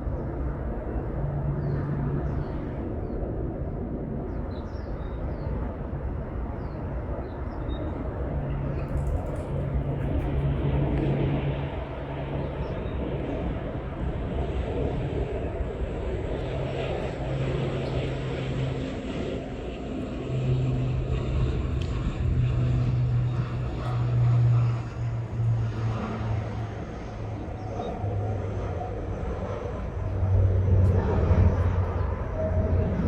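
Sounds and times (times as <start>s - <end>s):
low engine drone: 5.3s - 33.0s.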